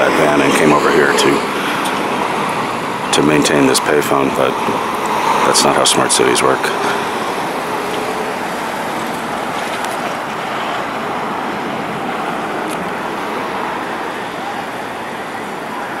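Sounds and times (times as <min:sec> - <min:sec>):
passing cars traffic hum: 0:00.0 - 0:16.0.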